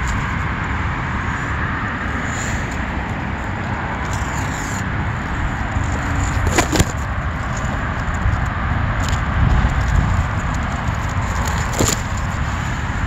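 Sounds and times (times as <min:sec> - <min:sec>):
passing car traffic: 0:00.0 - 0:13.0.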